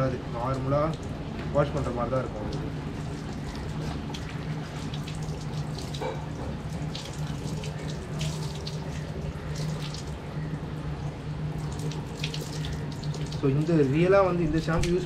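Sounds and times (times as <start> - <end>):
water splashing from a hose: 0.0 - 10.6, 11.5 - 15.0
steady low hum: 0.0 - 15.0.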